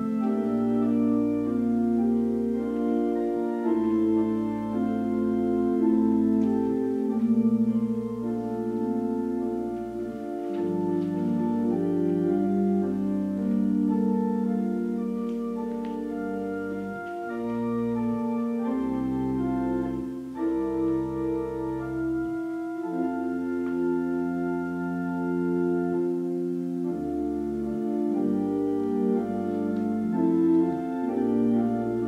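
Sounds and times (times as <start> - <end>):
church organ chords: 0.0 - 32.0.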